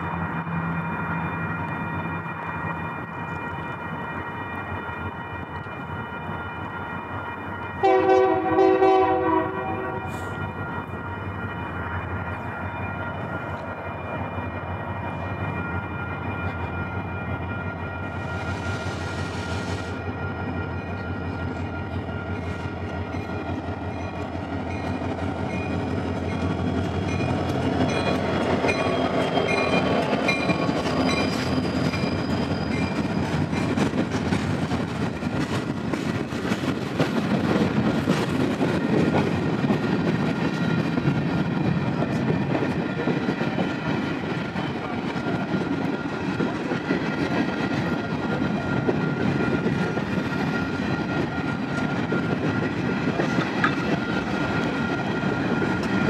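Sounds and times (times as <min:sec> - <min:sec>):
crossing bell ringing: 0:00.0 - 0:56.0
freight train rumble and clatter: 0:00.0 - 0:56.0.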